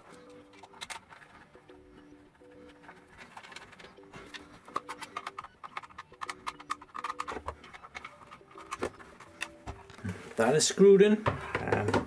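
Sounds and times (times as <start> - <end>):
plastic clicks and rattles: 0.1 - 10.0.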